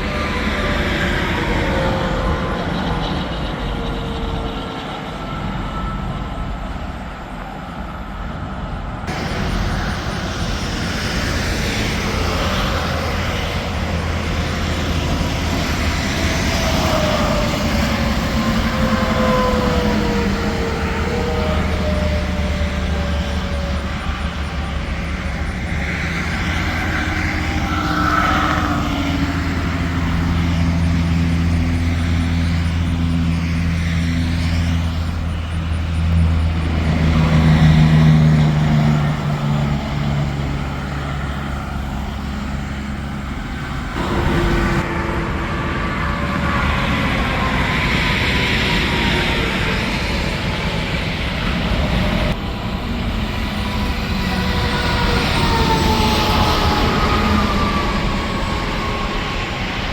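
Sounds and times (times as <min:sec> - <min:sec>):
trucks passing: 0:00.0 - 0:59.9.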